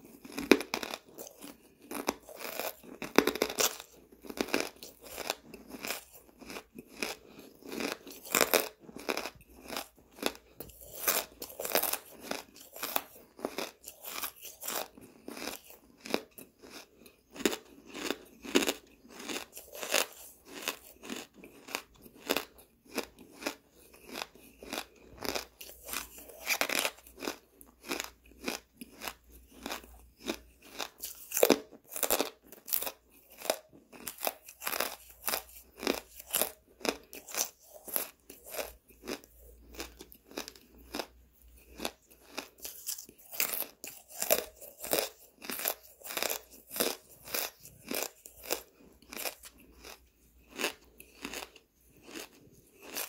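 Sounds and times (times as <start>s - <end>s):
charcoal being crunched and chewed: 0.0s - 53.0s.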